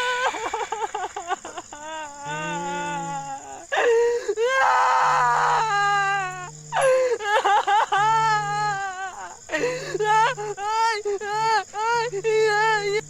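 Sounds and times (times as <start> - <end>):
high-pitched wailing cries: 0.0 - 13.0.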